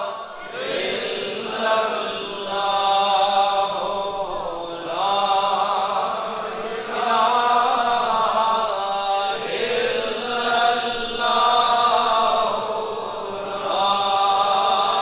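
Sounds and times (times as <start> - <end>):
men chanting: 0.0 - 15.0.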